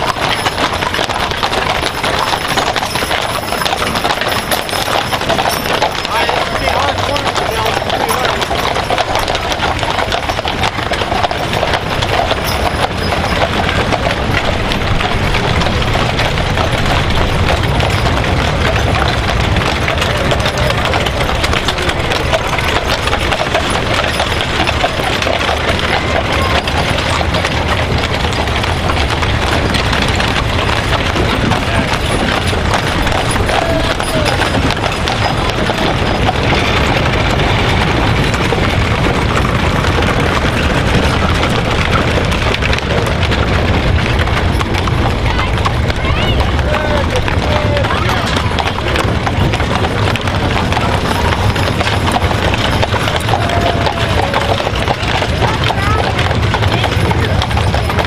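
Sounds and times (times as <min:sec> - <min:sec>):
dense steady background noise: 0:00.0 - 0:58.0
horse hooves clip-clopping: 0:00.0 - 0:58.0.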